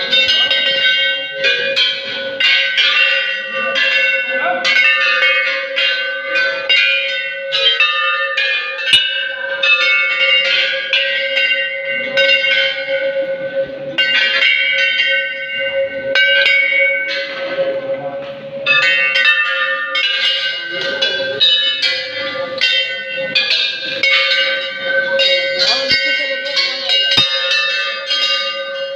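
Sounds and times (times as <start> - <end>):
brass bells clanging: 0.0 - 28.9.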